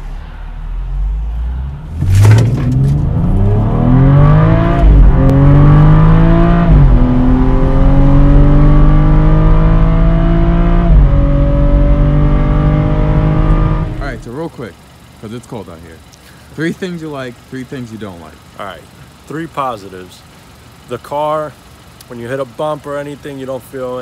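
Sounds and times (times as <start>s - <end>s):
car engine accelerating hard: 0.0s - 23.4s.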